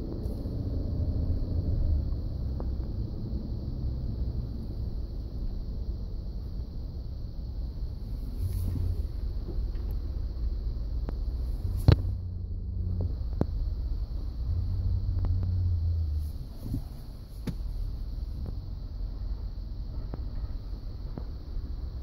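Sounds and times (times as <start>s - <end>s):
steady rumble: 0.0s - 22.0s
steering grinding drone: 0.0s - 22.0s.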